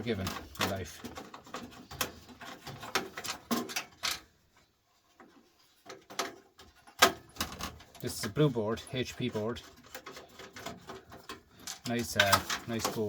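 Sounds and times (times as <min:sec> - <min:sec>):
plastic and metal parts clicking: 0:00.0 - 0:04.3, 0:05.2 - 0:13.0.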